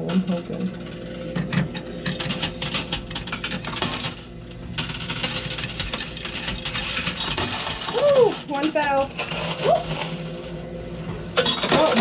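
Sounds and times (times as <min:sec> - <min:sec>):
coins clinking in arcade machine: 0:00.0 - 0:10.3.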